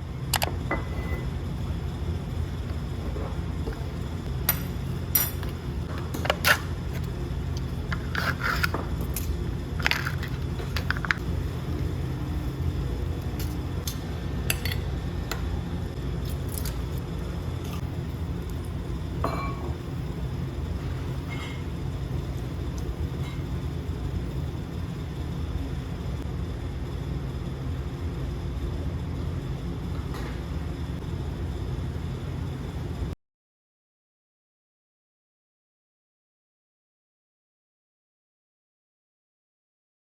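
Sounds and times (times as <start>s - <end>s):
steady low rumble: 0.0s - 8.2s, 8.8s - 33.2s.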